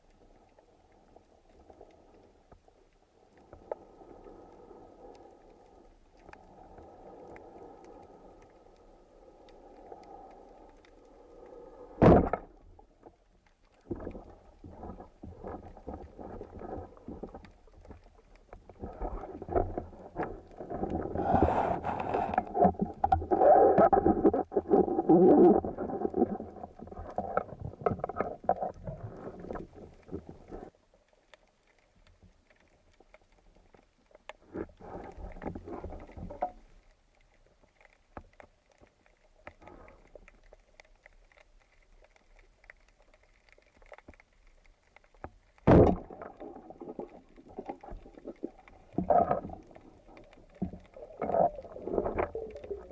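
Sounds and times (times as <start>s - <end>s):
muffled water noise: 0.0s - 52.9s.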